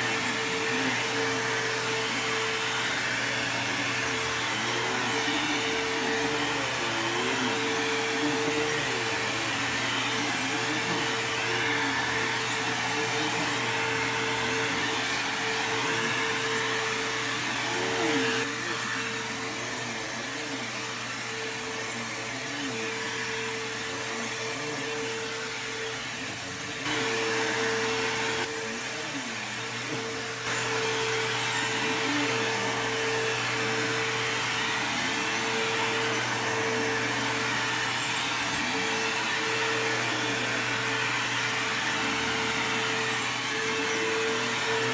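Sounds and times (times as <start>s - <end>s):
vacuum cleaner motor whine: 0.0s - 44.9s.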